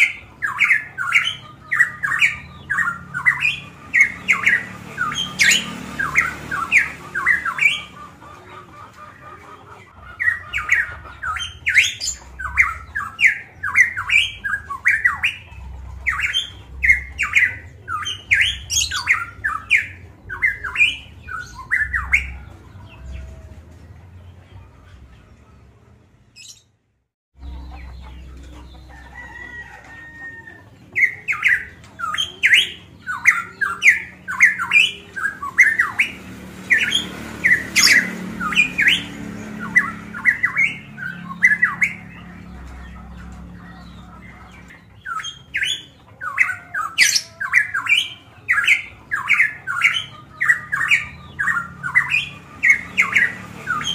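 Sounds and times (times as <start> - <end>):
bird singing chattering notes: 0.0 - 23.1, 30.7 - 53.9.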